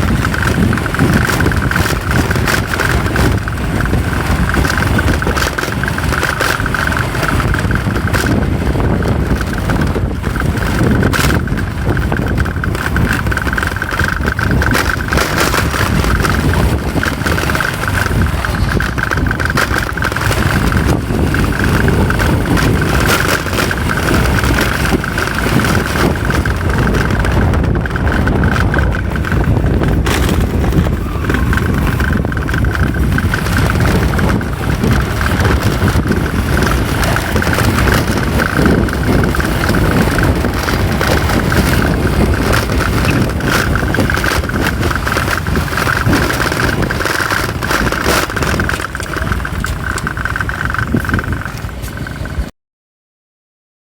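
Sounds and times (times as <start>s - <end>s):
high whine: 0.0s - 52.5s
motorcycle running: 0.0s - 52.5s
wind rumble on microphone: 0.0s - 52.5s.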